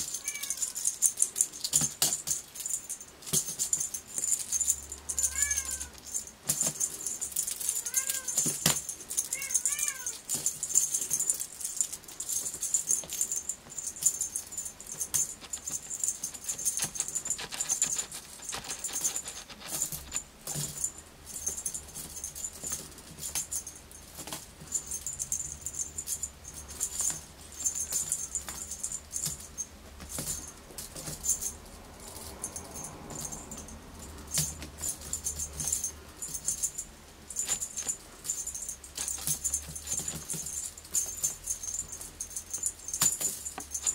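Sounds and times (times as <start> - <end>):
toy rattling and jingling: 0.0 - 43.9.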